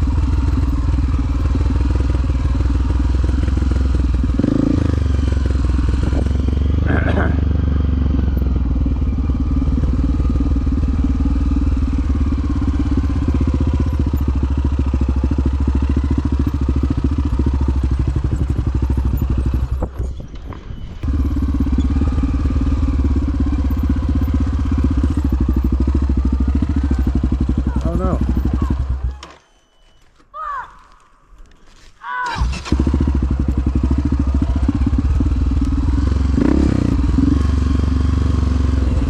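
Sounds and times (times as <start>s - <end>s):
dirt bike engine running: 0.0s - 20.2s, 21.0s - 29.2s, 32.4s - 39.0s.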